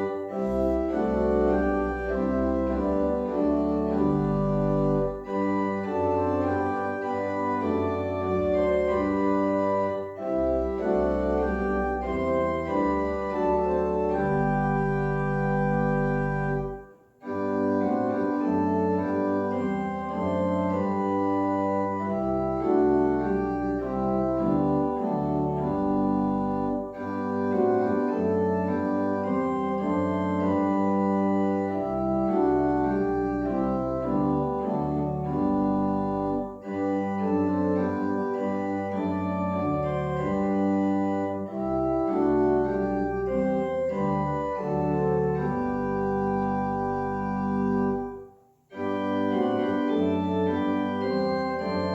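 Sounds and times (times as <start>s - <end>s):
organ playing slow chords: 0.0s - 51.9s.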